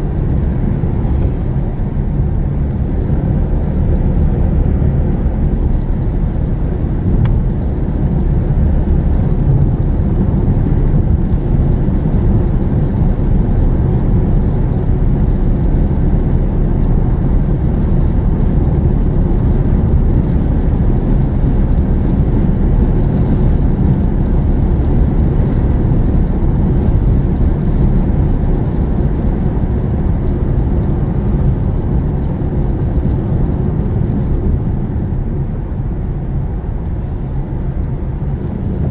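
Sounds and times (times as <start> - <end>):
car engine and tyre road noise: 0.0 - 38.9.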